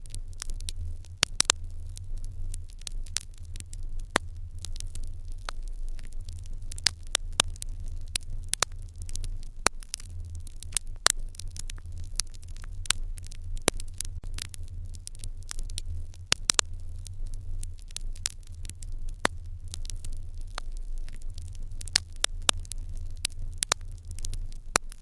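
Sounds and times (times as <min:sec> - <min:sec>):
fire crackling and popping: 0:00.0 - 0:25.0
low steady rumble: 0:00.0 - 0:25.0.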